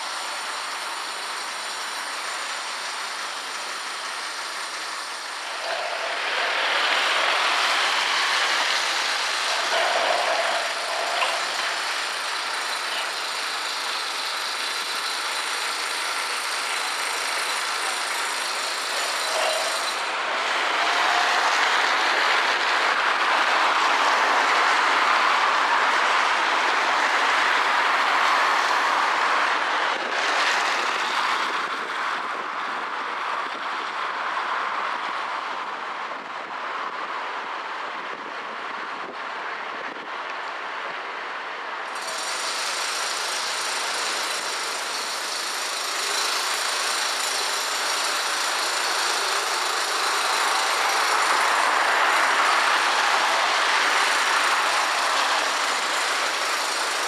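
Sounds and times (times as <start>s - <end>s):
road traffic rushing: 0.0s - 57.0s.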